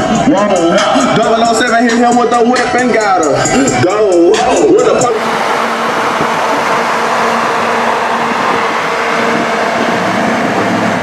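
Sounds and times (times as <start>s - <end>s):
wind: 0.0s - 11.0s
low engine hum: 1.1s - 11.0s.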